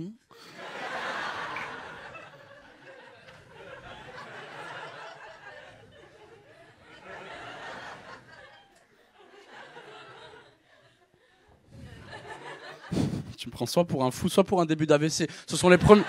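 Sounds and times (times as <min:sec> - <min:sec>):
audience laughing: 0:00.4 - 0:13.6, 0:15.5 - 0:16.0.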